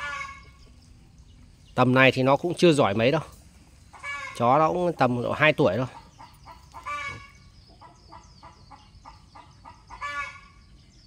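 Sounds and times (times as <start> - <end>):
chickens clucking: 0.0 - 11.0
drawn-out chicken calls: 0.0 - 11.0.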